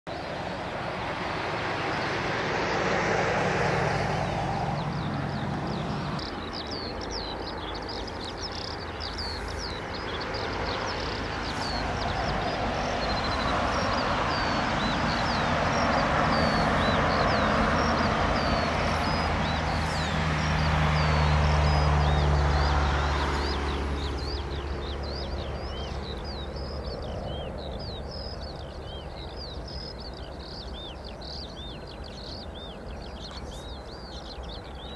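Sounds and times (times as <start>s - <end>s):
distant jet engines rumbling: 0.1s - 34.9s
small birds chirping: 0.1s - 34.9s.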